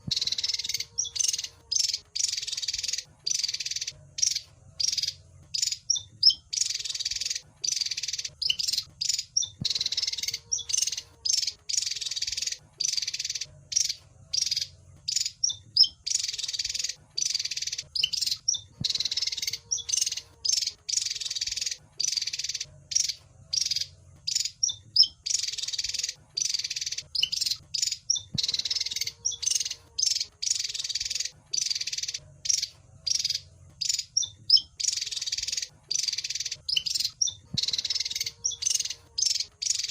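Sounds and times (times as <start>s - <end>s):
bird chirps and trills: 0.0s - 39.9s
faint low hum: 0.0s - 39.9s.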